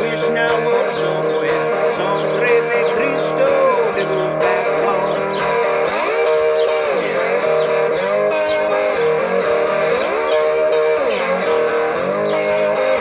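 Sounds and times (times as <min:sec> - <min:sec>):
electric guitar sliding notes: 0:00.0 - 0:13.0.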